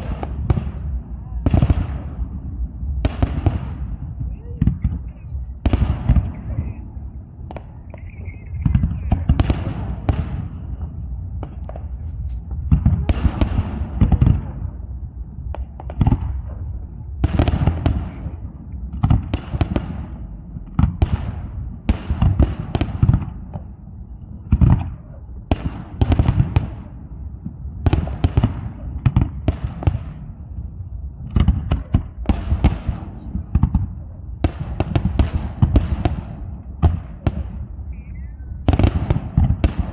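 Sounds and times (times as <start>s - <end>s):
fireworks bursting in bangs: 0.0s - 14.8s, 15.5s - 16.6s, 17.2s - 23.8s, 24.4s - 30.4s, 31.2s - 39.9s
fireworks crackling: 0.0s - 24.9s, 31.3s - 39.9s
low rumble: 0.0s - 39.9s.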